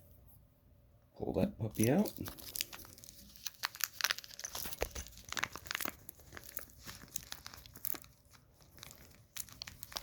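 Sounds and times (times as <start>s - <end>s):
crinkling and rustling: 1.7s - 10.0s.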